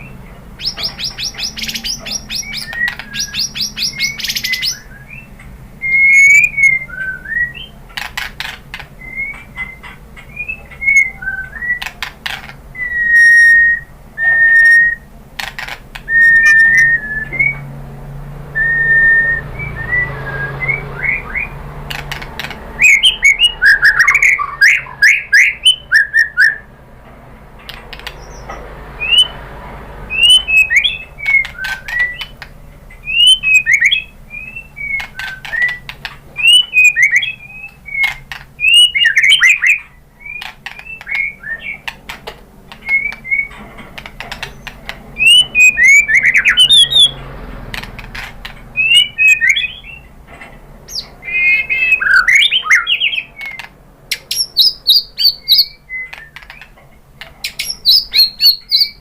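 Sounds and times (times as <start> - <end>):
bird sharp clicking notes: 0.0 - 17.6, 20.6 - 26.7, 27.6 - 29.4, 30.1 - 50.1, 50.9 - 59.0
bird whistling song: 0.0 - 17.8, 18.5 - 26.7, 27.9 - 42.1, 42.7 - 47.2, 47.8 - 50.1, 50.9 - 56.8, 57.4 - 59.0.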